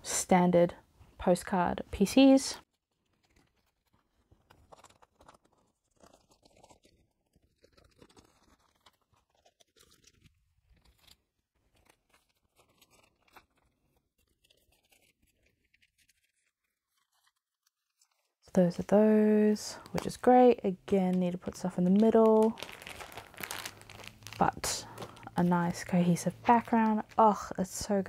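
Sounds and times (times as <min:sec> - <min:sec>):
plastic sleeves crinkling: 0:02.6 - 0:28.0.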